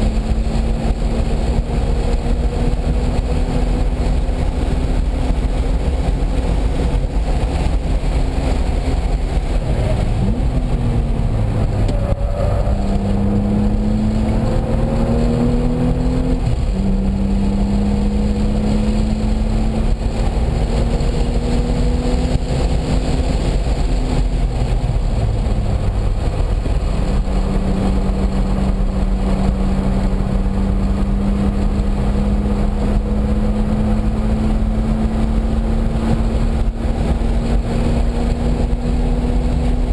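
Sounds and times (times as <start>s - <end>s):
car engine accelerating: 0.0s - 39.9s
road rumble: 0.0s - 39.9s
wind noise: 0.0s - 39.9s.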